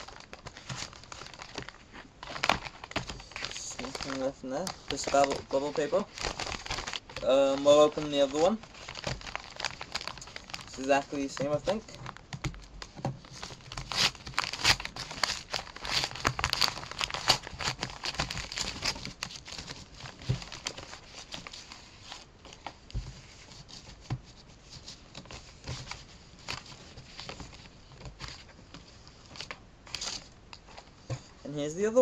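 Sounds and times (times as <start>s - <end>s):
paper mailer crinkling and rustling: 0.0s - 31.5s.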